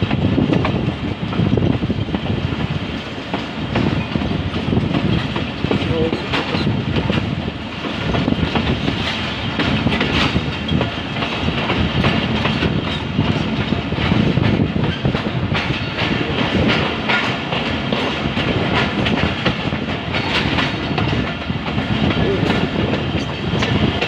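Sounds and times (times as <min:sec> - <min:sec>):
train wheels clacking on rails: 0:00.0 - 0:24.0.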